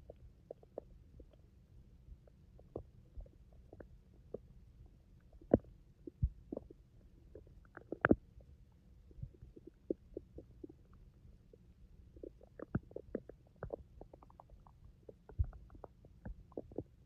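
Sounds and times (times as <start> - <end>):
stomach growling: 0.0 - 1.5, 2.2 - 4.5, 5.2 - 17.0.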